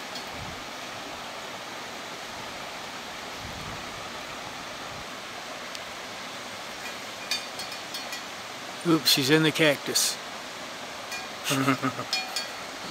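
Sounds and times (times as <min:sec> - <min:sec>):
waterfall roaring: 0:00.0 - 0:12.9.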